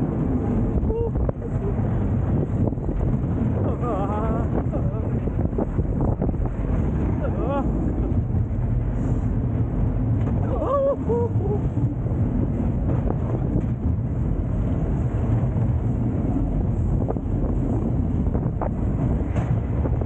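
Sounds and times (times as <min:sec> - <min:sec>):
coaster car rumbling on track: 0:00.0 - 0:20.0
wind buffeting microphone: 0:00.0 - 0:20.0.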